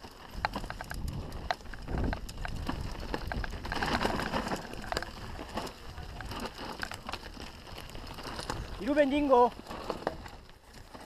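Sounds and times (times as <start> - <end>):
bike rattling clicks: 0.0 - 11.0
tyres crunching over stones: 0.0 - 11.0.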